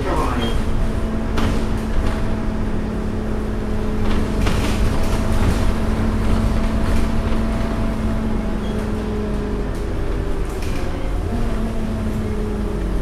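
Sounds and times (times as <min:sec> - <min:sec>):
bus diesel engine running: 0:00.0 - 0:13.0
low road rumble: 0:00.0 - 0:13.0.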